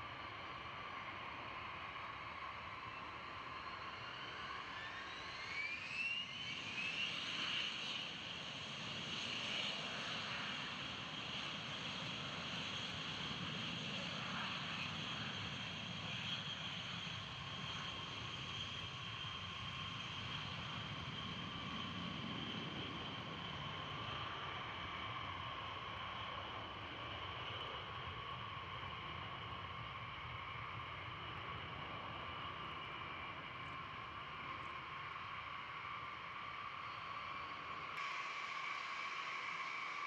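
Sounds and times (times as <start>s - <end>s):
jet engine turbine whine: 0.0s - 40.0s.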